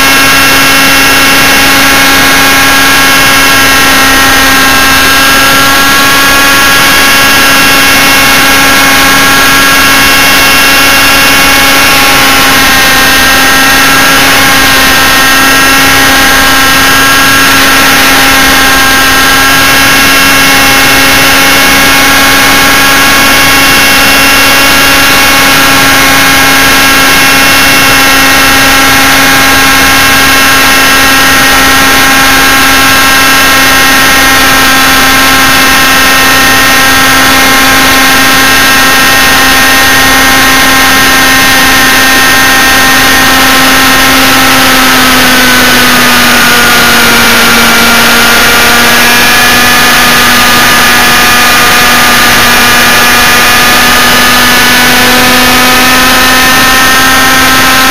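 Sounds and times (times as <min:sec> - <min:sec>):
model helicopter engine and rotor: 0:00.0 - 0:57.9.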